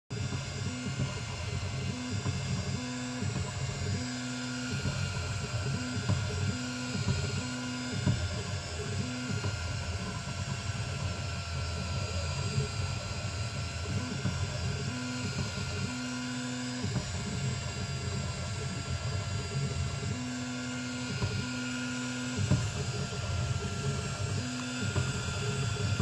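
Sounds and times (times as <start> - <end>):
motor whine: 0.0 - 26.0
constant hum: 0.1 - 26.0
stepper motors rumbling: 0.1 - 26.0.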